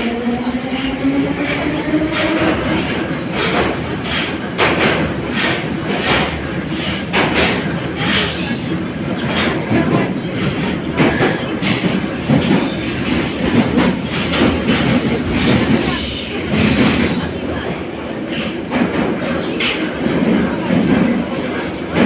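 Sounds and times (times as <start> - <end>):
train running gear rumble: 0.0 - 22.0.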